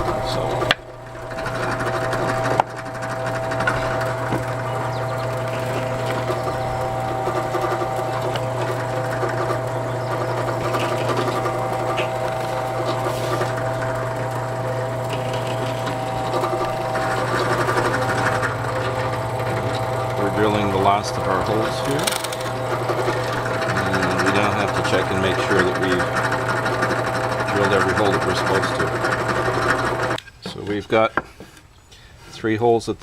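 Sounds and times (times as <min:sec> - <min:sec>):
drill press motor running: 0:00.0 - 0:30.8
drill bit boring wood: 0:00.0 - 0:31.3.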